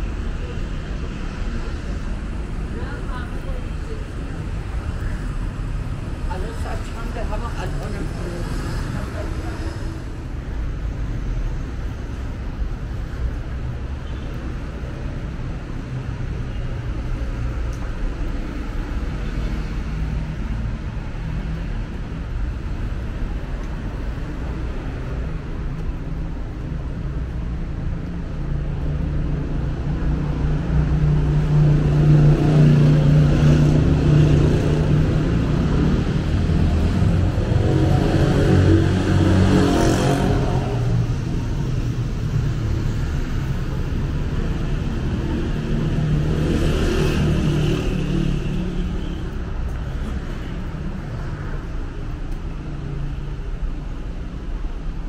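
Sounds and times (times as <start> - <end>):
car engines: 0.0 - 55.0.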